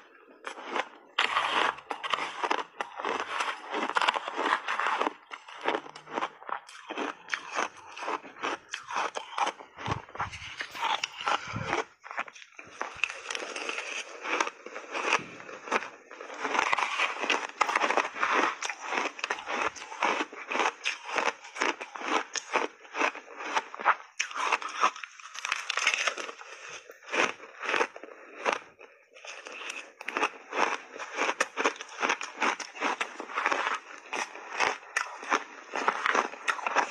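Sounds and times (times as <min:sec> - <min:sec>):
crunchy ice being chewed: 0:00.0 - 0:36.9.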